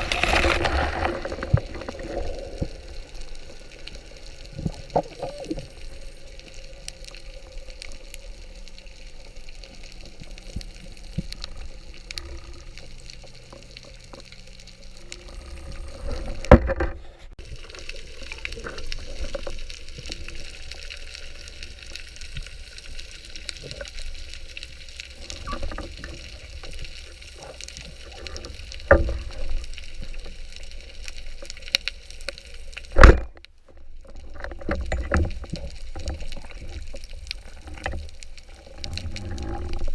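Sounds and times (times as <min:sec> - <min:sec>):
underwater water noise: 0:00.0 - 0:39.9.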